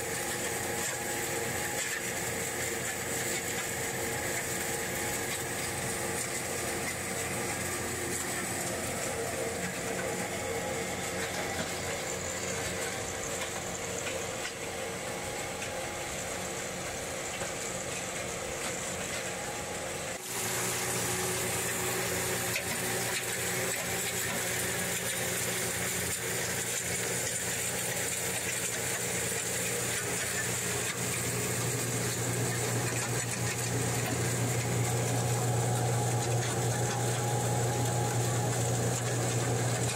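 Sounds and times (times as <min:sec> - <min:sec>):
milling machinery hum: 0:00.0 - 0:39.9.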